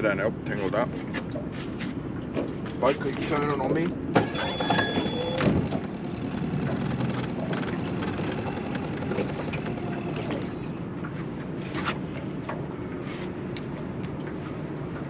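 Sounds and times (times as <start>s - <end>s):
water slapping against hull: 0.6s - 4.2s, 5.1s - 15.0s.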